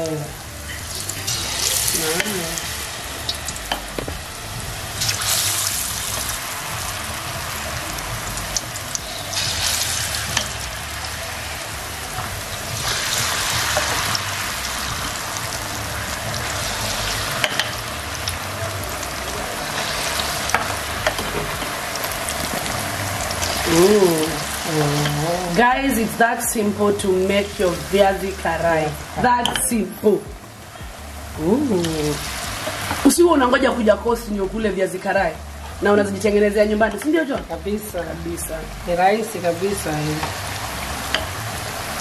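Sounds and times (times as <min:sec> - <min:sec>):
food deep-frying in oil: 0:00.0 - 0:42.0.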